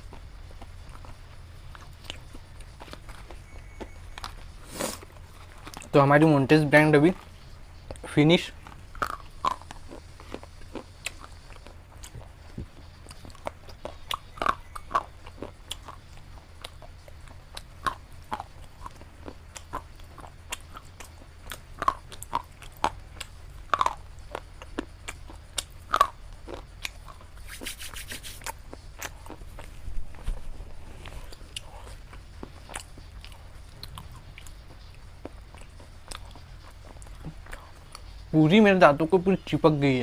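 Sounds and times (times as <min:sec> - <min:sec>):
mouth chewing: 0:00.0 - 0:06.1, 0:07.0 - 0:38.3.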